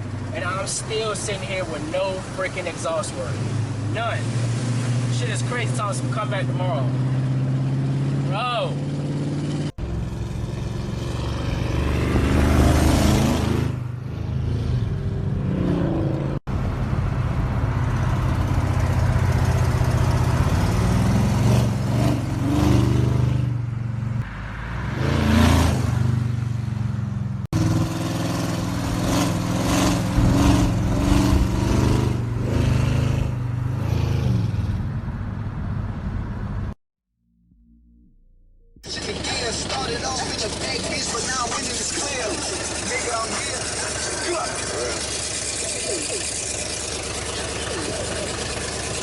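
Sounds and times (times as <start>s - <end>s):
car engine and exhaust revving: 0.0s - 36.8s, 38.8s - 49.0s.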